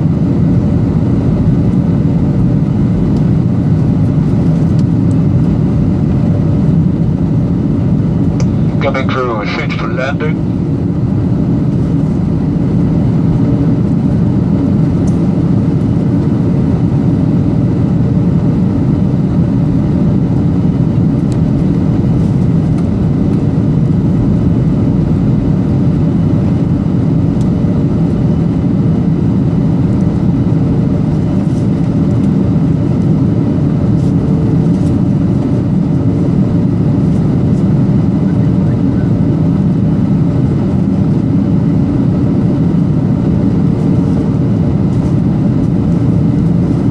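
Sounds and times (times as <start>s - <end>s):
aircraft cabin engine roar: 0.0s - 46.9s
faint steady hum: 0.0s - 46.9s.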